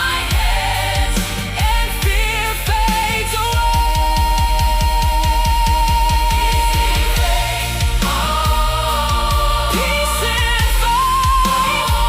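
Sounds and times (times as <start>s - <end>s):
worship song music: 0.0s - 12.0s.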